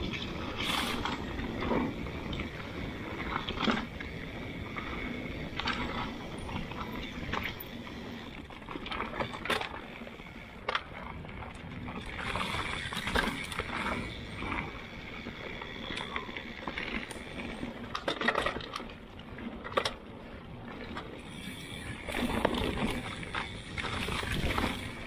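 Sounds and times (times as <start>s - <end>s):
bike knocking and rattling: 0.0s - 25.0s
bike tyres rushing over dirt: 0.0s - 25.0s.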